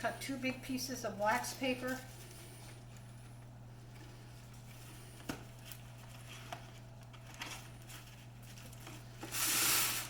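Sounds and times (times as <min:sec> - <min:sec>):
steady low hum: 0:00.0 - 0:10.0
wax paper rustling: 0:01.0 - 0:10.0.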